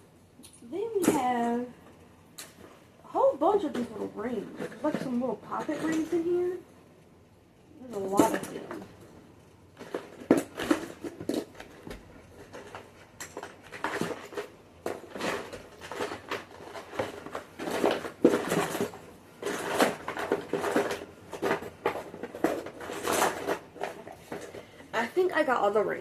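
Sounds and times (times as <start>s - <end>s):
small toys clattering: 2.4s - 6.6s, 7.8s - 26.0s.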